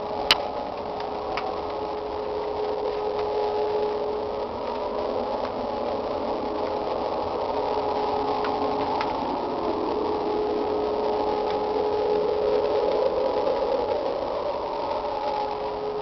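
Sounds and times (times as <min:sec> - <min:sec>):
steady droning hum: 0:00.0 - 0:16.0.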